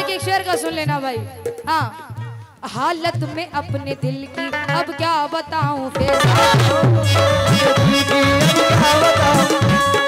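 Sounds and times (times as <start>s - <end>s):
tabla playing: 0.0s - 10.0s.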